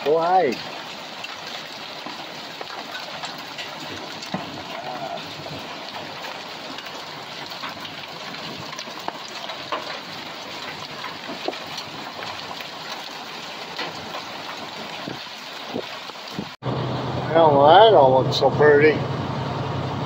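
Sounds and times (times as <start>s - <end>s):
heavy rain hissing: 0.0s - 16.6s
rain taps: 0.0s - 16.6s.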